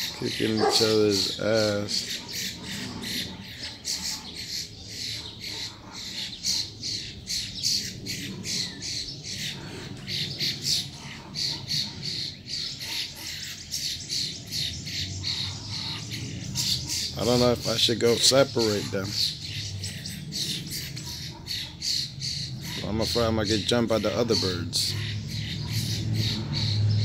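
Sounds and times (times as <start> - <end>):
birds squawking harshly: 0.0 - 27.0.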